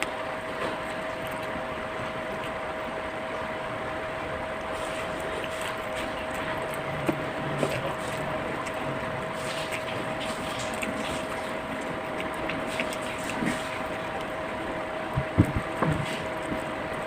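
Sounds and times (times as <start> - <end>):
whirring hum with constant tone: 0.0 - 17.0.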